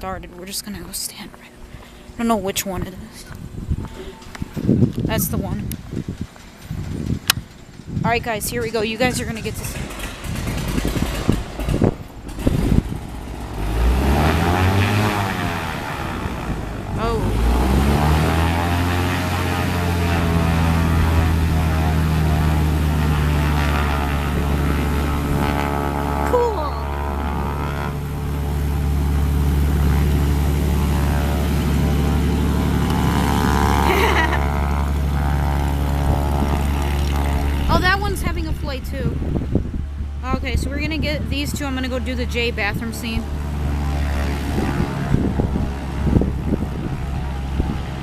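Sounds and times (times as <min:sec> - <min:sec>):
irregular low rumbles: 0:00.0 - 0:48.0
propeller plane engine revving: 0:00.0 - 0:48.0.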